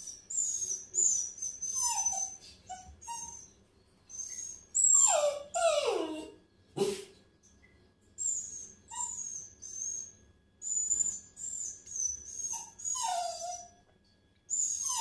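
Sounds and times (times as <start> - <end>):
puppy whining: 0.0 - 7.0, 8.2 - 13.9, 14.5 - 15.0.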